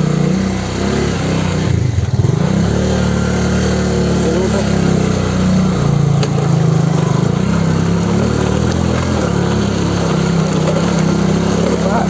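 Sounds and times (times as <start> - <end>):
motorcycle engine revving: 0.0 - 12.0
road and wind noise: 0.0 - 12.0.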